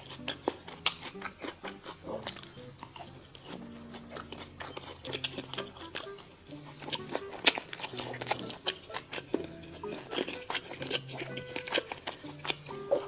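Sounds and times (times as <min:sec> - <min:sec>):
close chewing and crunching: 0:00.0 - 0:13.0
soft background music: 0:00.0 - 0:13.0.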